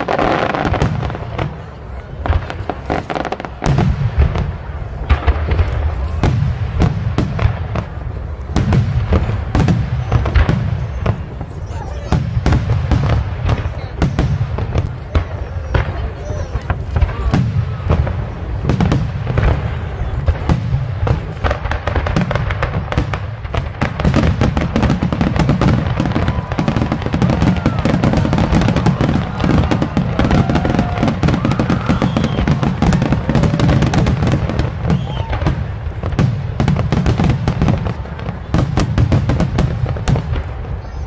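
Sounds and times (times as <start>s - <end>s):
fireworks bursts and crackle: 0.0s - 41.0s.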